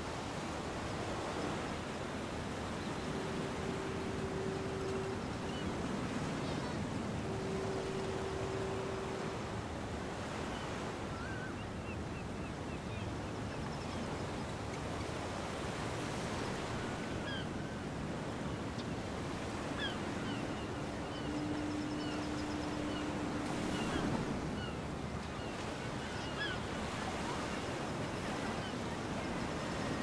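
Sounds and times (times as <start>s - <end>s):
ocean waves washing on shore: 0.0s - 30.0s
wind: 0.0s - 30.0s
long steady low tone: 0.6s - 30.0s.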